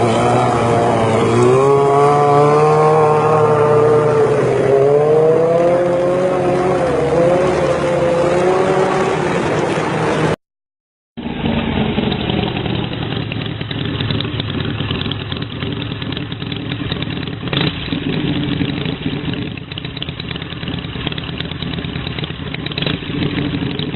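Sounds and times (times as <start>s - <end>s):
motorcycle engine revving: 0.0s - 10.4s, 11.2s - 23.9s.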